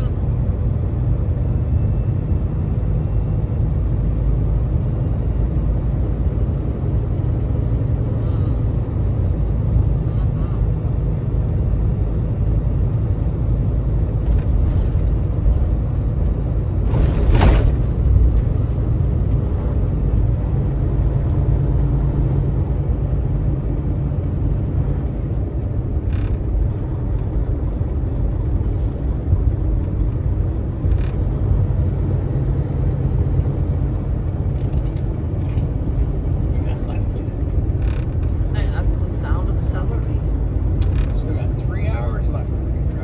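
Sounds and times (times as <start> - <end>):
truck engine and road rumble: 0.0 - 43.0.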